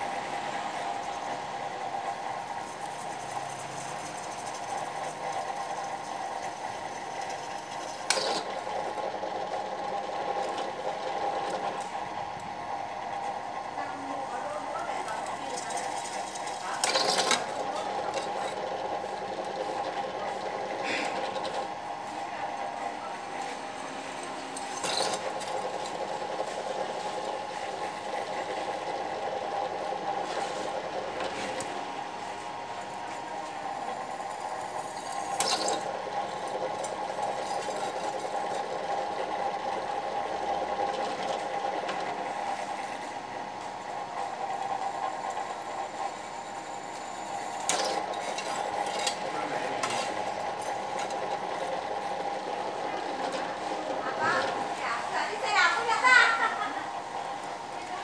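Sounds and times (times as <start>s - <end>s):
drill press motor hum: 0.0s - 58.0s.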